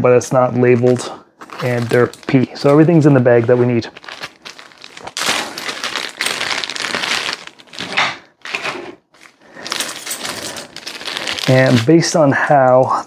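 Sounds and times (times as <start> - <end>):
plastic bag crinkling: 0.7 - 12.1.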